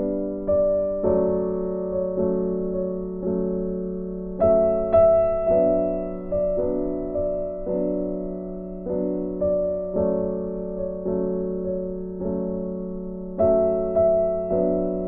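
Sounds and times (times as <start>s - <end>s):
gentle piano tune: 0.0s - 15.0s.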